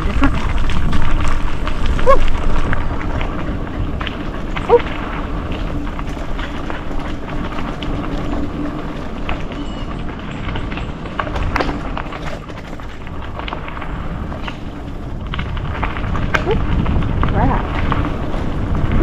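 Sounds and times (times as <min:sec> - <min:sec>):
bike rattling: 0:00.0 - 0:19.0
low rumble: 0:00.0 - 0:19.0
tyres crunching over gravel: 0:00.0 - 0:19.0.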